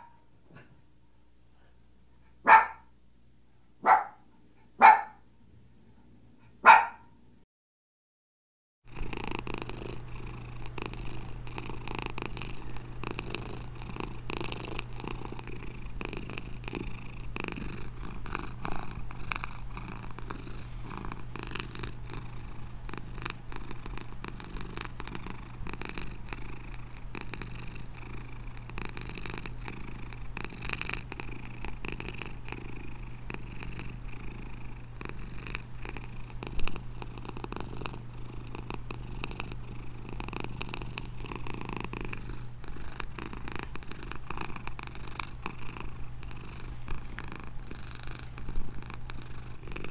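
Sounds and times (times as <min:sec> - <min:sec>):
cat purring: 0:08.9 - 0:49.9.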